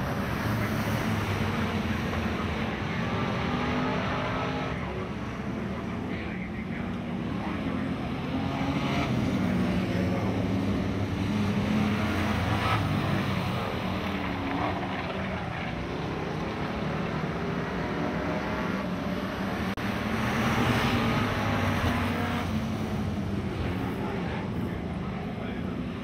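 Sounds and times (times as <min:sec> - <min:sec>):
race car engines running hard: 0:00.0 - 0:26.0.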